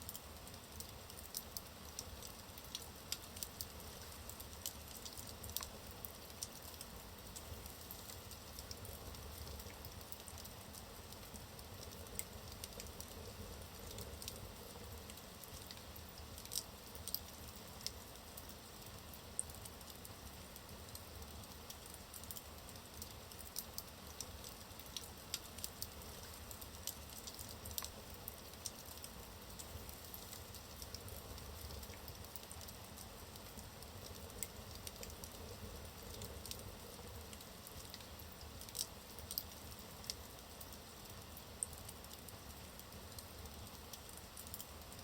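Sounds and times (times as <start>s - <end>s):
fire crackles and pops: 0.0s - 45.0s
fire rustling in fireplace: 0.0s - 45.0s.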